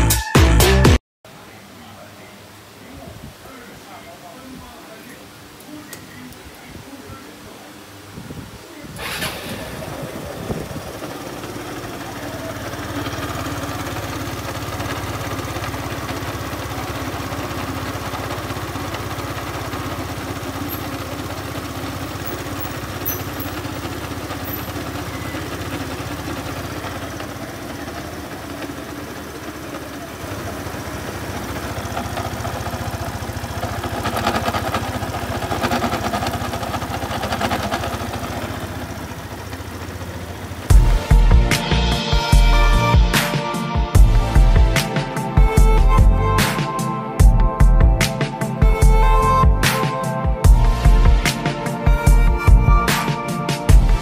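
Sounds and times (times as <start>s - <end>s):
scooter engine starting: 8.9s - 54.0s
scooter engine running: 9.0s - 54.0s.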